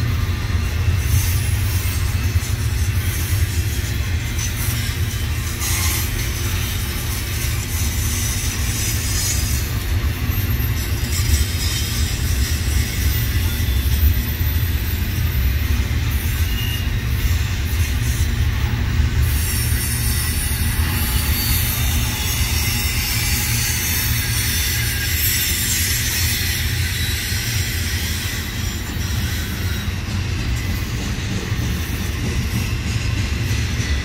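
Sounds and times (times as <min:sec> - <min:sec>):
steel train wheels rumbling on rail: 0:00.0 - 0:34.0.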